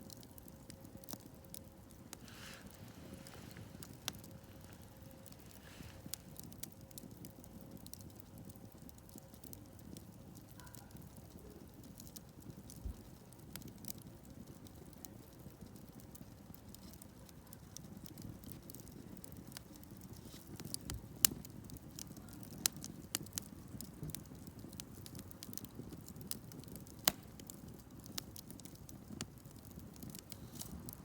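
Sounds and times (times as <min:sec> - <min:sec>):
burning wood crackling and popping: 0:00.0 - 0:31.0
campfire flames rushing: 0:00.0 - 0:31.0.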